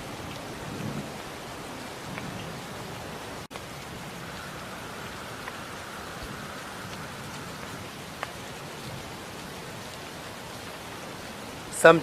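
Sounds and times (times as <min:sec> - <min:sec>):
steady rain: 0:00.0 - 0:12.0
water drips: 0:00.0 - 0:12.0.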